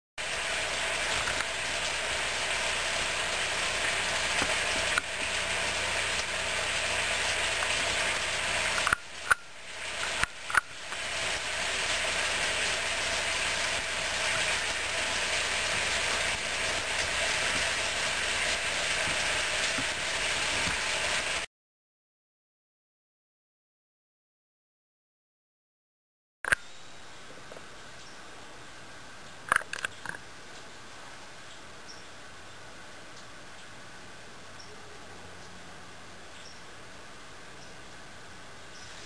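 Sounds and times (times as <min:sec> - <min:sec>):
steady background hiss: 0:00.2 - 0:21.5, 0:26.6 - 0:39.0.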